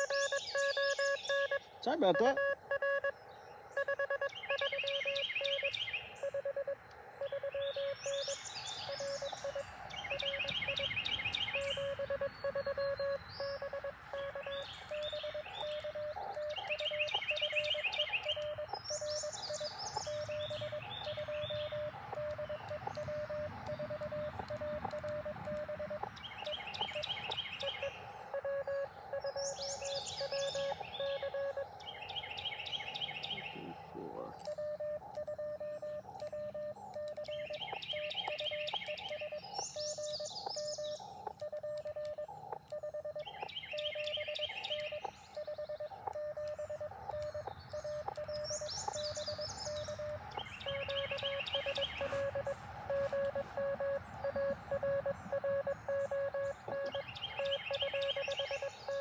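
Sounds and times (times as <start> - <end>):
birds singing trilled phrase: 0.0 - 59.0
morse code beeps: 0.0 - 59.0.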